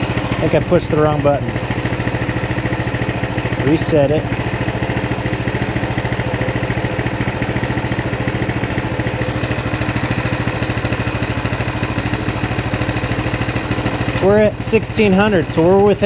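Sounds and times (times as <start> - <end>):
mini bike engine idling: 0.0 - 16.0.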